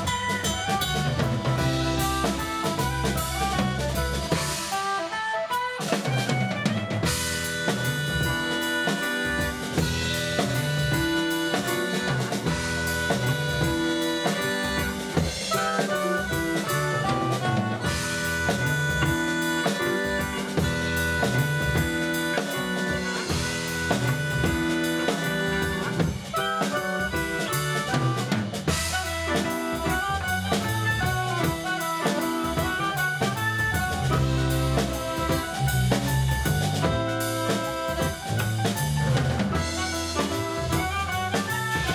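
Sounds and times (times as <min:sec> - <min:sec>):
electric bass: 0:00.0 - 0:05.2, 0:05.8 - 0:41.9
clarinet and saxophone melody: 0:00.0 - 0:41.9
drum kit groove: 0:00.0 - 0:41.9
keyboard: 0:00.0 - 0:41.9.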